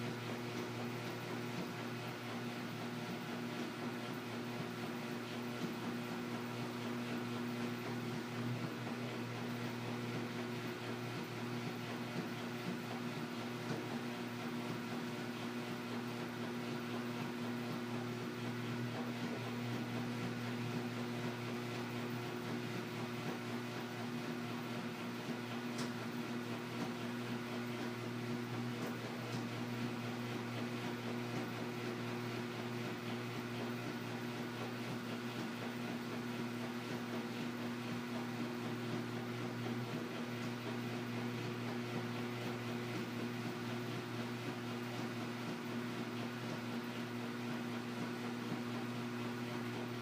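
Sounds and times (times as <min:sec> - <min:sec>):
washing machine motor hum: 0:00.0 - 0:50.0.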